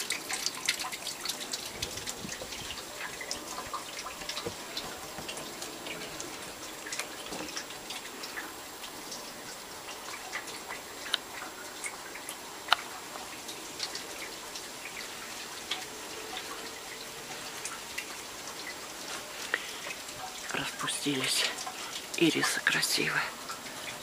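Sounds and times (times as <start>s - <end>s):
water drops dripping on leaves: 0.0s - 24.0s.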